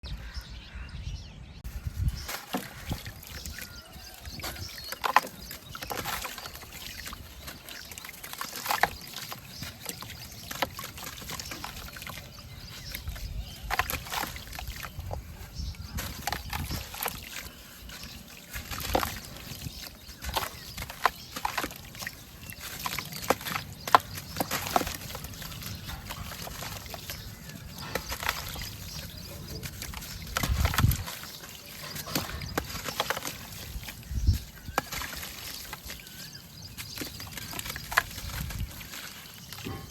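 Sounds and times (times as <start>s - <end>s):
water sloshing: 1.7s - 39.9s
cement crumbling in water: 1.9s - 39.9s.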